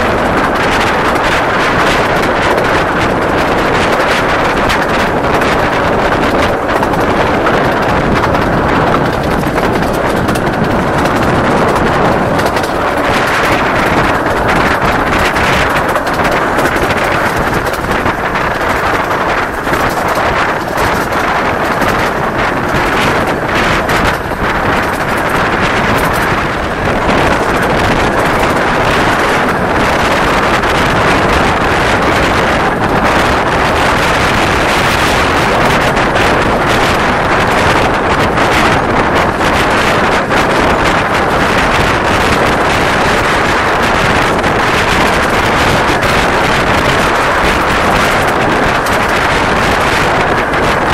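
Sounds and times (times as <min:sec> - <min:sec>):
train running noise: 0:00.0 - 0:50.9
wind rushing over microphone: 0:00.0 - 0:50.9.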